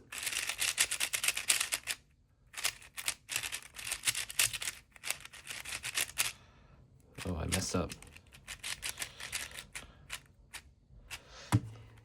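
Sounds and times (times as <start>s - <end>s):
plastic puzzle cube clicking: 0.1s - 6.3s, 7.5s - 11.2s.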